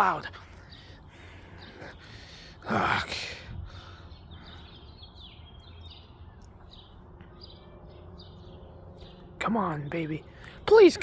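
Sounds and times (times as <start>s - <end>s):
bird chirping: 0.0s - 3.0s, 3.8s - 11.0s
low outdoor background: 0.0s - 11.0s.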